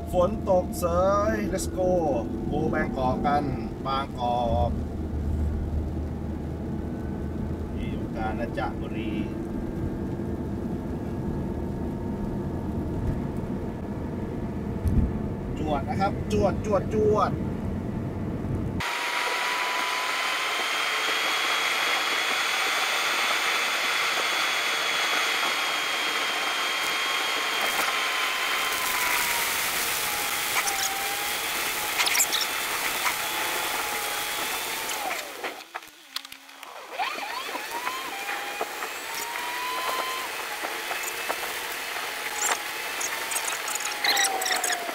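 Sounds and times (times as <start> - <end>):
thin wavering whine: 0.0 - 44.9.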